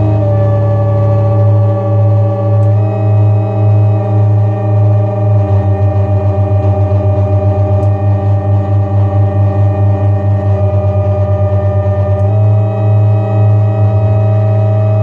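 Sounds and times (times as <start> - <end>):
steady higher synth tones: 0.0 - 15.0
synthesizer bass drone: 0.0 - 15.0.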